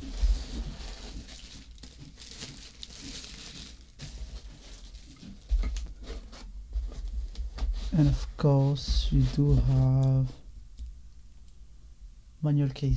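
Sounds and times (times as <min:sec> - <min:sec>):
packaging crinkling and rustling: 0:00.0 - 0:10.4.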